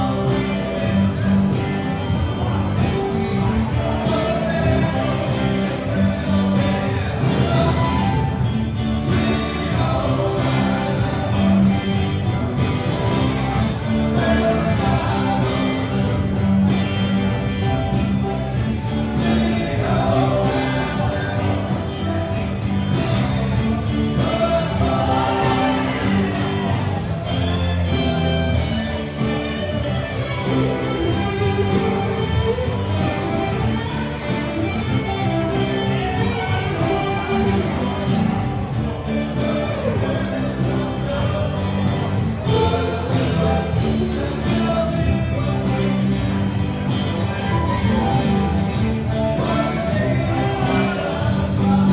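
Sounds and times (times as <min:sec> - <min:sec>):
live band playing: 0:00.0 - 0:51.9
person singing: 0:00.0 - 0:51.9
steady drum beat: 0:00.0 - 0:51.9.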